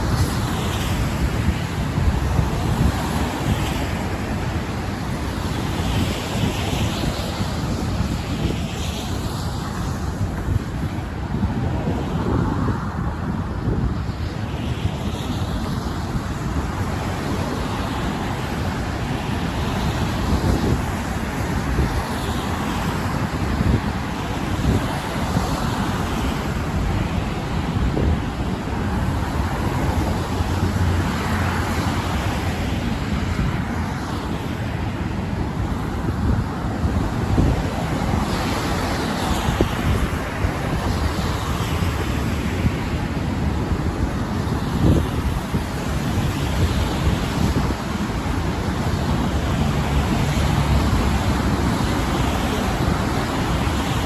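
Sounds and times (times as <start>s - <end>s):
wind rumble on microphone: 0.0s - 54.0s
road traffic: 7.1s - 54.0s.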